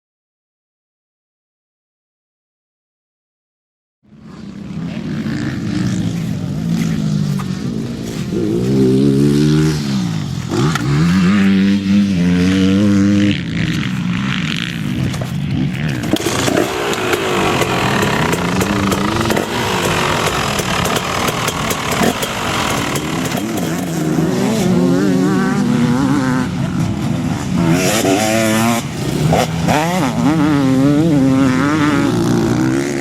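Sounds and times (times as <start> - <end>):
motocross engines revving: 4.1 - 33.0.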